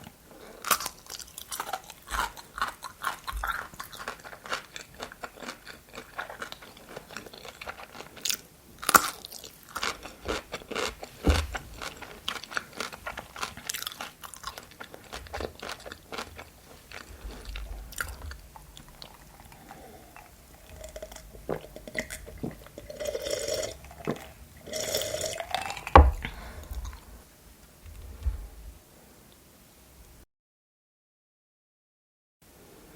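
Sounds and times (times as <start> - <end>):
crunching food: 0.3 - 27.1
wet chewing: 0.4 - 27.2.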